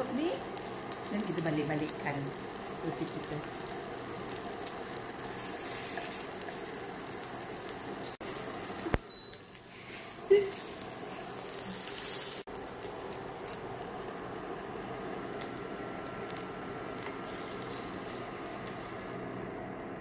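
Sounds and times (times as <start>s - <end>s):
bread frying in a pan: 0.0s - 19.7s.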